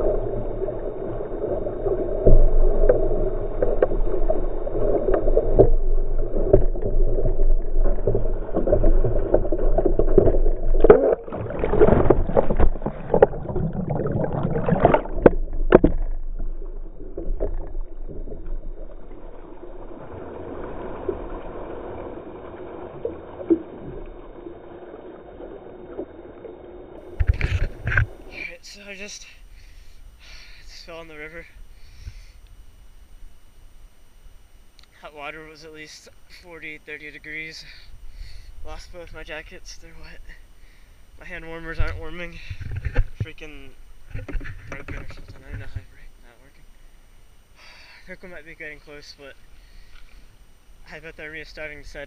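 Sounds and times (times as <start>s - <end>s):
churning water underwater: 0.0s - 34.6s, 36.2s - 52.0s.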